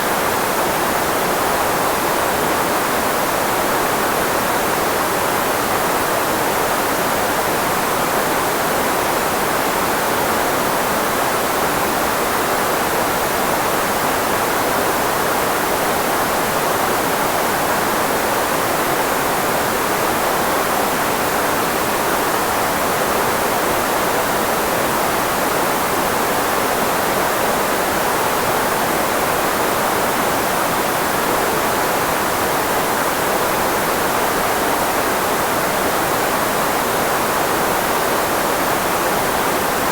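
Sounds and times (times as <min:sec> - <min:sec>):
filtered white noise: 0:00.0 - 0:39.9.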